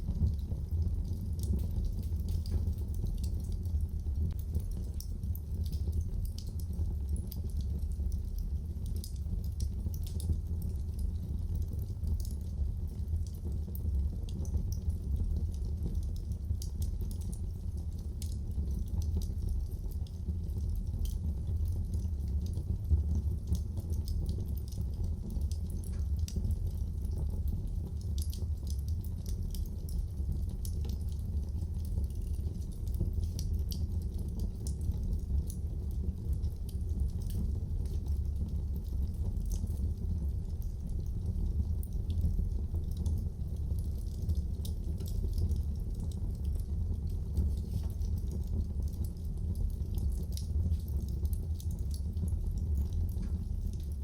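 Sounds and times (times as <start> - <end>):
fire crackles and pops: 0.0 - 54.0
low rumble of flames: 0.0 - 54.0.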